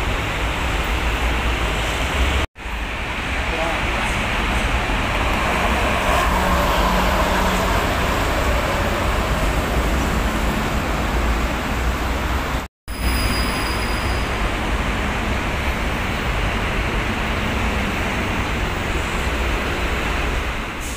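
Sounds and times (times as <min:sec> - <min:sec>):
heavy road traffic passing: 0:00.0 - 0:12.7, 0:14.2 - 0:20.9.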